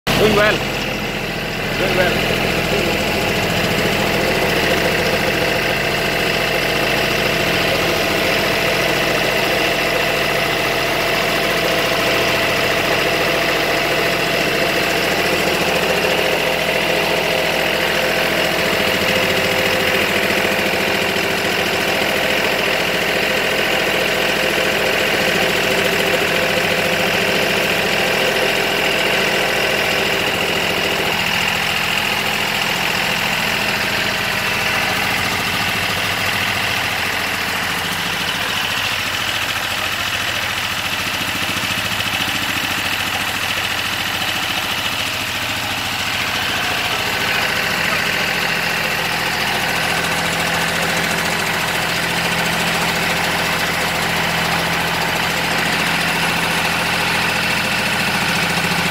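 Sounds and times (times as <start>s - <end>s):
tractor engine under load: 0.0s - 58.9s
chaff cutter machine whine: 0.1s - 58.9s.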